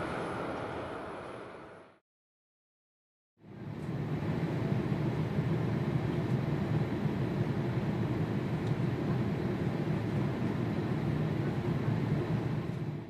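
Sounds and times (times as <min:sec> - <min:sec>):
jet engines low rumble: 0:00.0 - 0:02.0, 0:03.4 - 0:13.0.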